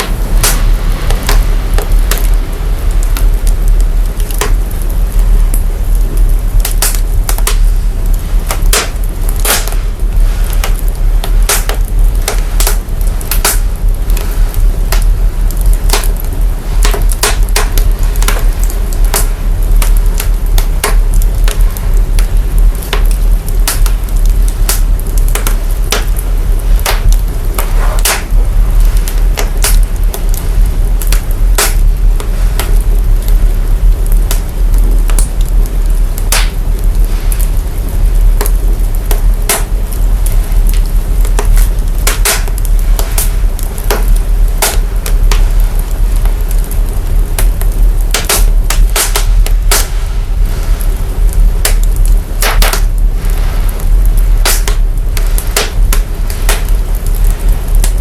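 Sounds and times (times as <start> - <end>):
deep sub-bass rumble: 0.0 - 58.0
fire crackling and popping: 0.0 - 58.0.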